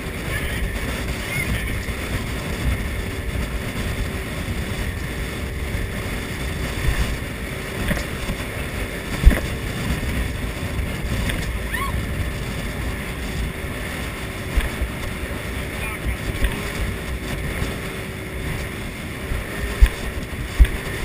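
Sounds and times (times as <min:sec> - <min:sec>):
motorboat engine running: 0:00.0 - 0:21.0
water against hull: 0:00.0 - 0:21.0
wind on microphone: 0:00.0 - 0:21.0.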